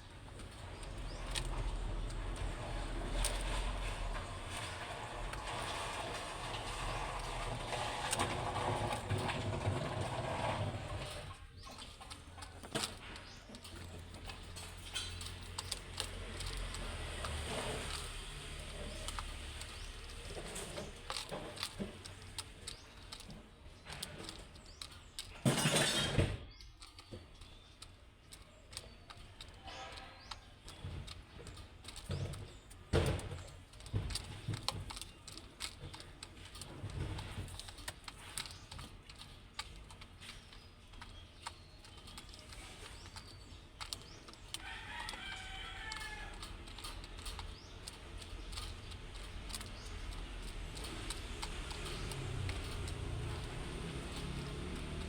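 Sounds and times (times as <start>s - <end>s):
birds clicking and scuffing: 0.0s - 55.0s.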